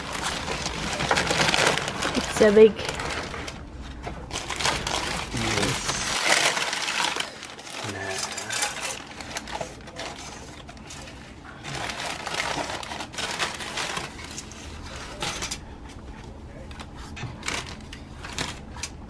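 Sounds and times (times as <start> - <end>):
paper wrapping rustling: 0.0 - 19.0.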